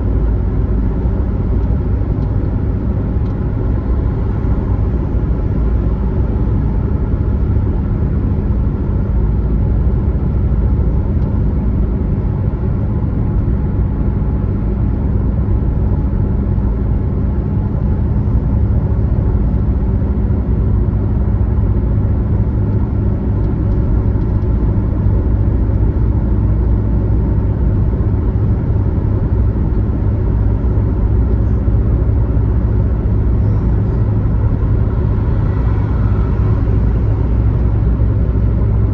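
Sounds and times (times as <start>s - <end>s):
car driving at highway speed: 0.0s - 38.9s.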